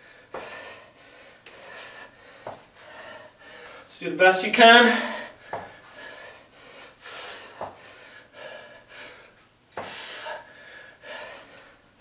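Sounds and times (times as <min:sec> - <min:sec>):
man breathing hard: 0:00.0 - 0:03.9, 0:04.9 - 0:12.0.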